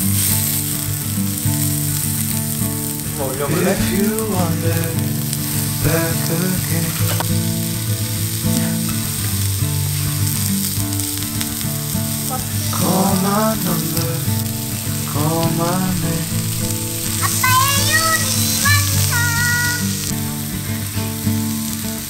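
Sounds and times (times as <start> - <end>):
beef sizzling on grill pan: 0.0 - 22.0.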